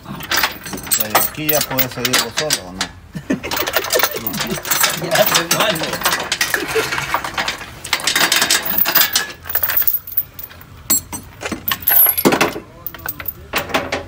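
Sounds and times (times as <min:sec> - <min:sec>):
metal tools clinking: 0:00.2 - 0:13.8.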